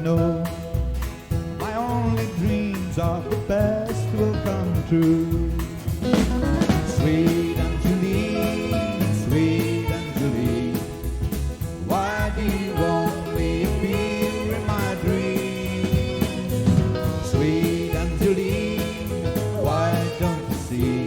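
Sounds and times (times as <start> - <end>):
country band playing slow song: 0.0 - 21.0.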